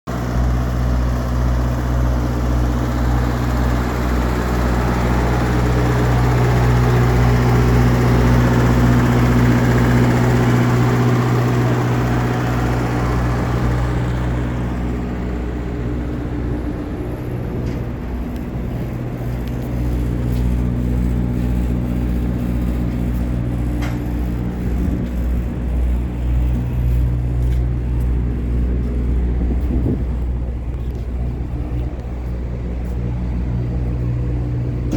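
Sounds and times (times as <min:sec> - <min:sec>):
heavy diesel engine running: 0:00.1 - 0:34.9.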